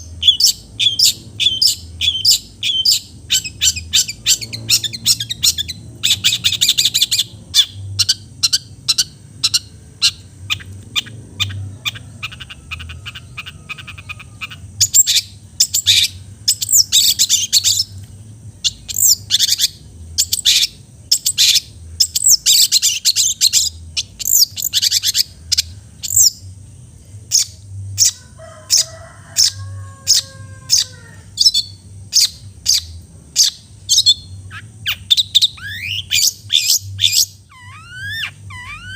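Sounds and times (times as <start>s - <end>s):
bird chattering song: 0.0s - 38.9s
low steady hum: 0.0s - 38.9s.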